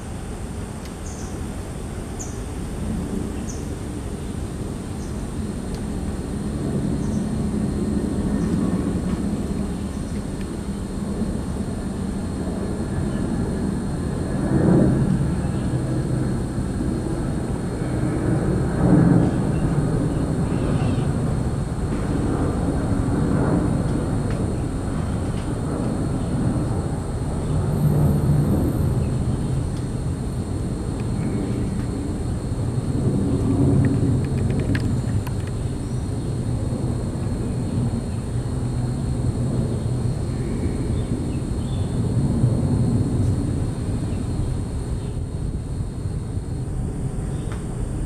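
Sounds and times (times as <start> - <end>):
faint high whine: 0.0 - 48.0.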